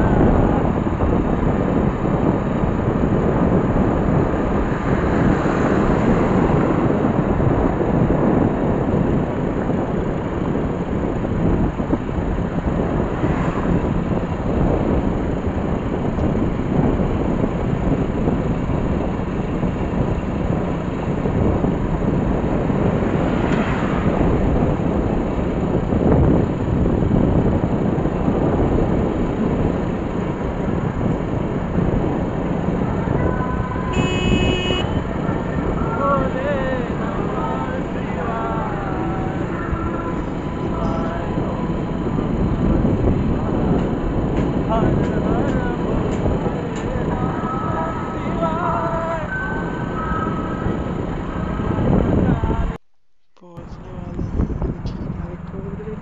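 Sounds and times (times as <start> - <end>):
wind on microphone: 0.0 - 52.8, 53.4 - 56.0
motorbike engine and road noise: 0.0 - 56.0.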